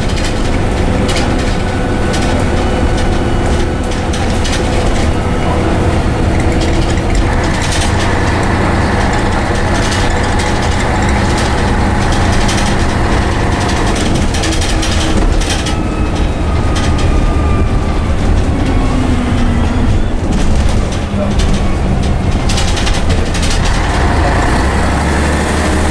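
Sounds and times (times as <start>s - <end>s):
bus engine drone and whine: 0.0s - 25.9s.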